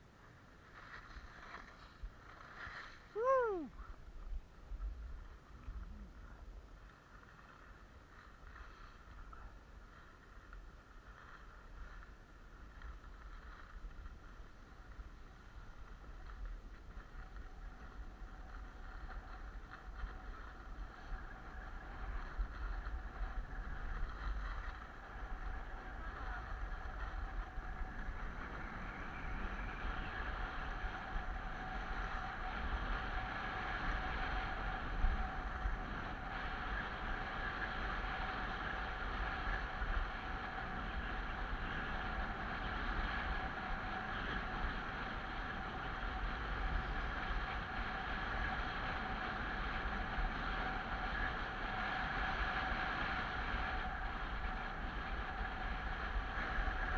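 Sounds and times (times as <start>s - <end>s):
skis hissing over snow: 0.1s - 56.9s.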